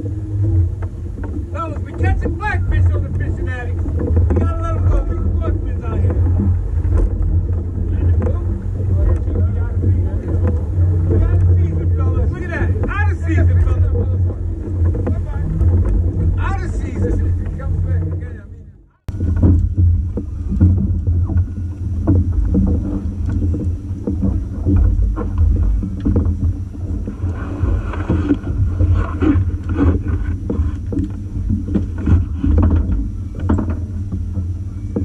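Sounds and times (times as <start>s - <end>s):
water slapping boat hull: 0.0s - 35.0s
wind buffeting microphone: 0.0s - 35.0s.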